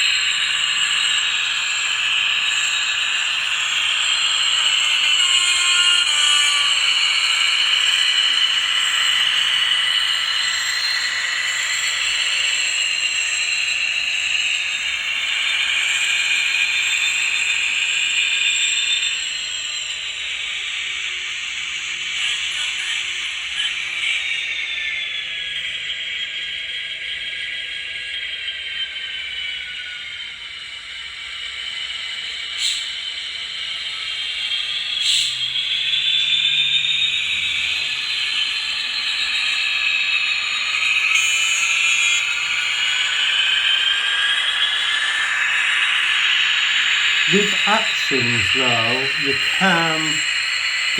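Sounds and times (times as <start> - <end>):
tinny model locomotive engine: 0.0 - 50.9.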